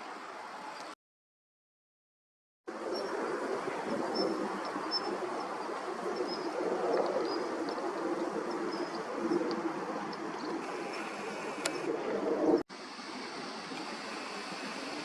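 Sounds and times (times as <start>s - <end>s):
steady rushing noise: 2.7s - 15.0s.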